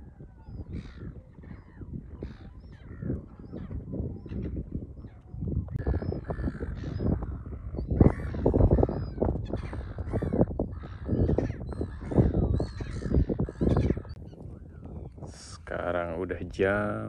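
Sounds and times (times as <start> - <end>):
birds harsh calls: 0.0 - 17.0.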